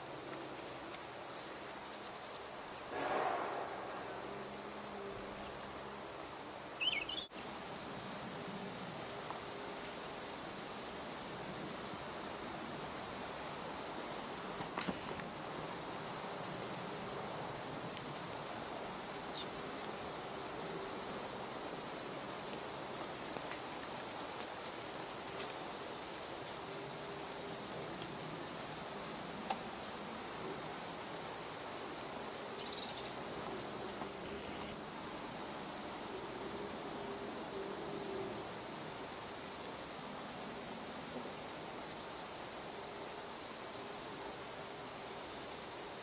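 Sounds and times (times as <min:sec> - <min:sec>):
woodland background hiss: 0:00.0 - 0:46.0.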